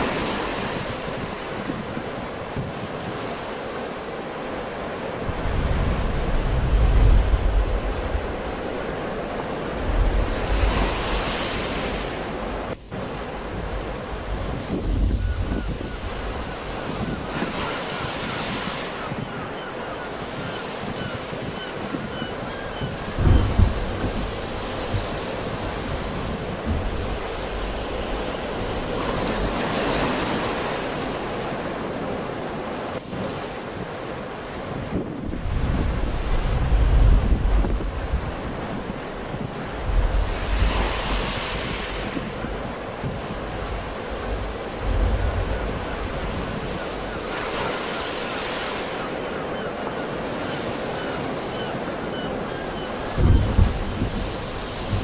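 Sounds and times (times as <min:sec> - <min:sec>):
sea waves washing onto shore: 0:00.0 - 0:55.0
wind rumbling on microphone: 0:00.0 - 0:55.0.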